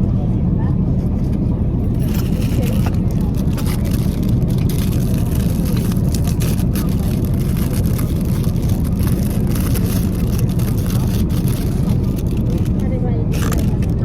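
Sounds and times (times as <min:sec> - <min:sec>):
vehicle cabin rumble: 0:00.0 - 0:14.0.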